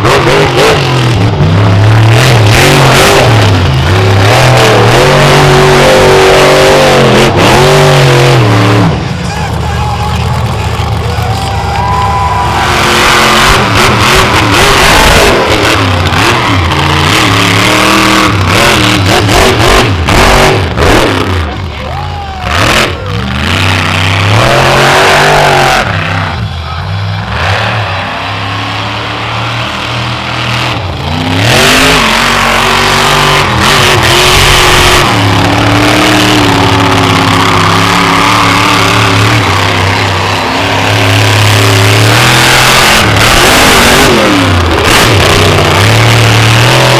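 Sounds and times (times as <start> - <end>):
monster truck engine revving: 0.0 - 46.9.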